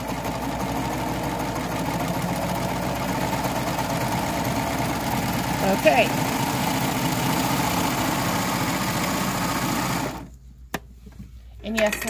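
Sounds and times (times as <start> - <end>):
serger sewing machine running: 0.0 - 10.3.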